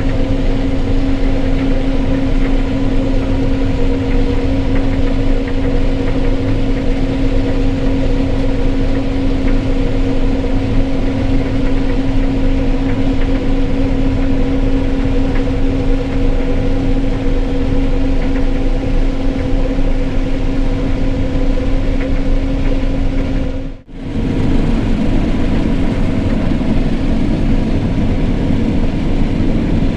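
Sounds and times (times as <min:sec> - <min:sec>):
combine harvester running: 0:00.0 - 0:29.9.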